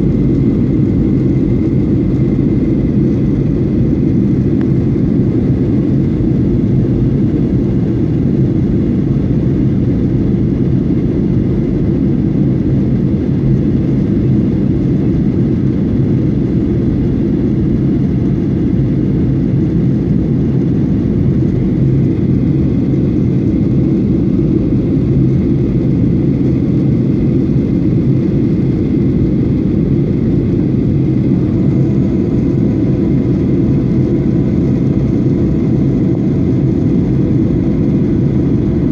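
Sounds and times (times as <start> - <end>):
jet engines and airflow rushing: 0.0 - 38.9.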